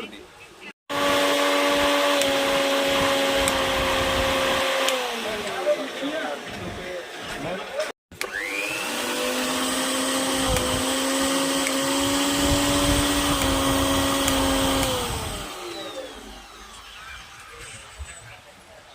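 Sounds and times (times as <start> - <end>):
mixer grinder motor whining: 0.9 - 18.0.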